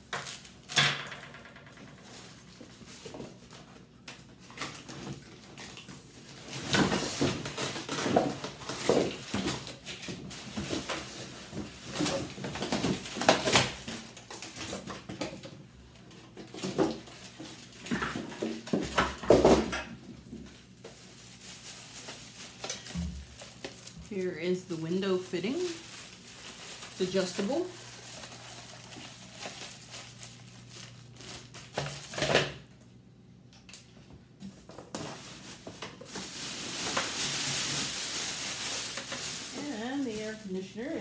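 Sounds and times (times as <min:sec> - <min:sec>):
plastic and cardboard rustling: 0:00.0 - 0:32.7, 0:34.4 - 0:41.0.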